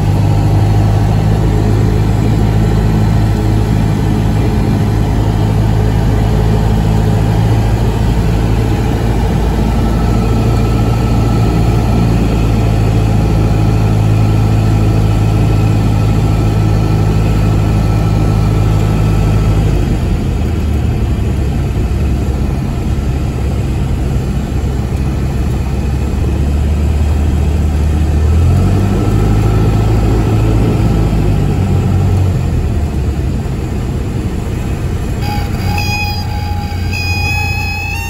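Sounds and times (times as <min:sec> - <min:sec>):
aircraft engine and propeller droning: 0:00.0 - 0:38.0.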